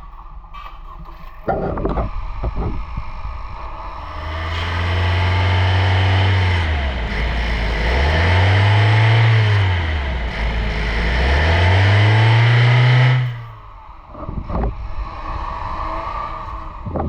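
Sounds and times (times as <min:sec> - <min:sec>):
car engine revving: 0:03.0 - 0:17.0.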